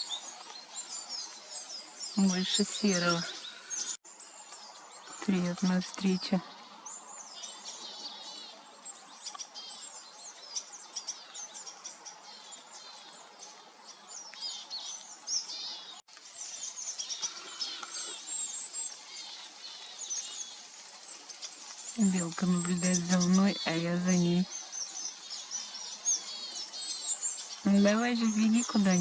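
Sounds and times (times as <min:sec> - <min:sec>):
faint background hiss: 0:00.0 - 0:29.0
small birds twittering: 0:00.0 - 0:29.0.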